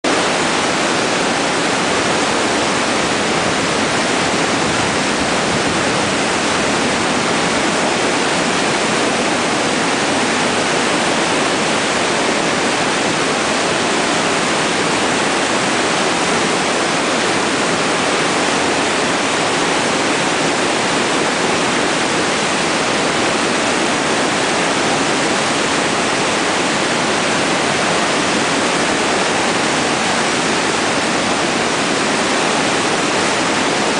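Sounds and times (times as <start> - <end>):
whitewater rapids rushing: 0.0 - 33.9.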